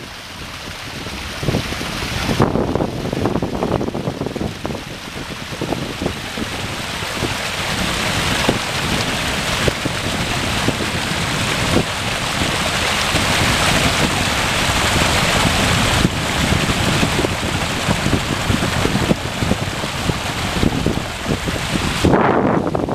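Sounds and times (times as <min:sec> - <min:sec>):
waterfall splashing over rocks: 0:00.0 - 0:22.9
wind buffeting microphone: 0:00.0 - 0:22.9.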